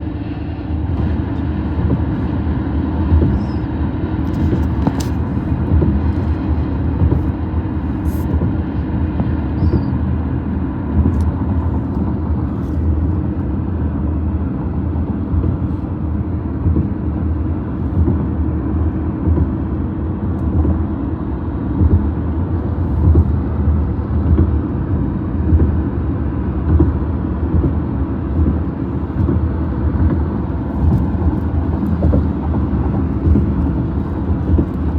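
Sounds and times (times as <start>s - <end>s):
bridge humming under traffic: 0.0s - 34.9s.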